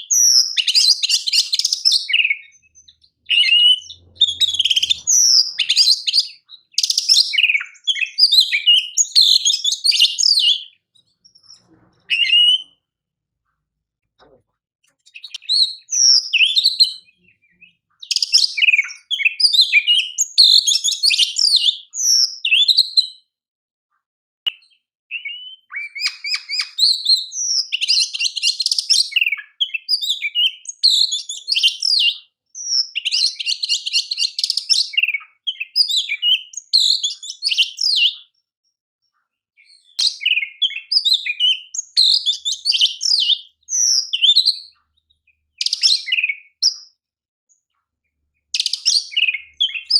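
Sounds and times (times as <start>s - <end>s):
bird singing varied song: 0.0s - 23.4s, 24.0s - 49.9s.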